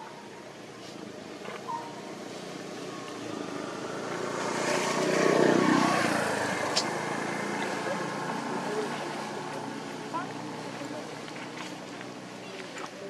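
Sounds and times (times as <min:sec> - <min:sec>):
passing engine drone: 0:01.7 - 0:12.2.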